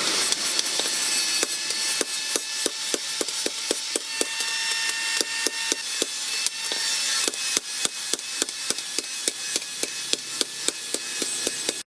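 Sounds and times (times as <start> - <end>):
hammer striking steel: 0.0 - 11.9.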